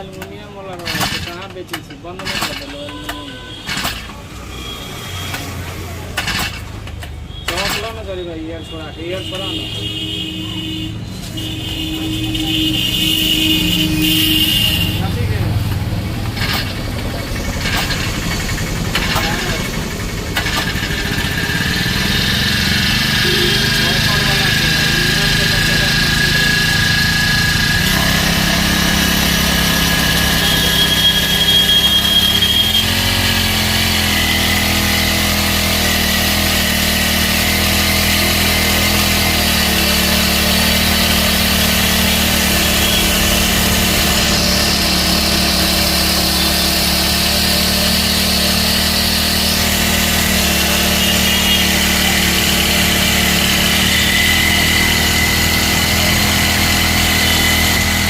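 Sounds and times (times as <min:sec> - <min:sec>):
petrol engine running: 0:10.7 - 0:58.0.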